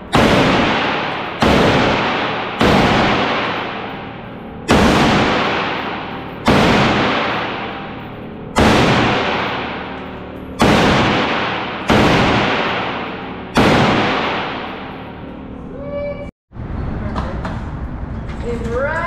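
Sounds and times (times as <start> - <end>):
echoing gunshots indoors: 0.0 - 15.6.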